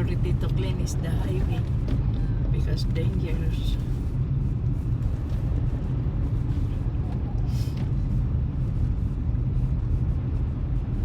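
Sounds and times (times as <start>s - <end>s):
vehicle engine and tyres rumble: 0.0s - 11.0s.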